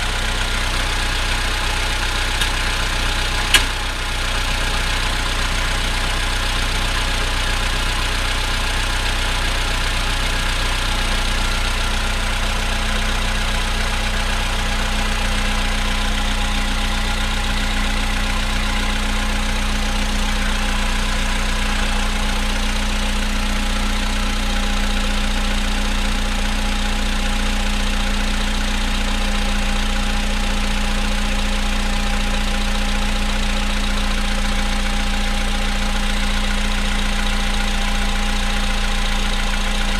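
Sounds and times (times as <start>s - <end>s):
cold car engine idling with knocking: 0.0s - 39.9s.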